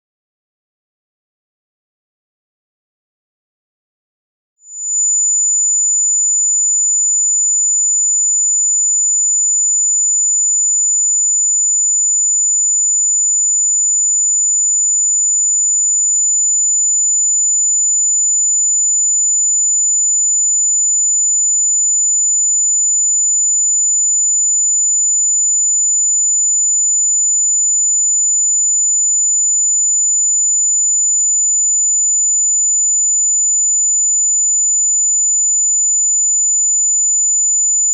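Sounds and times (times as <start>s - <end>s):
high-pitched sine tone: 4.7s - 37.9s.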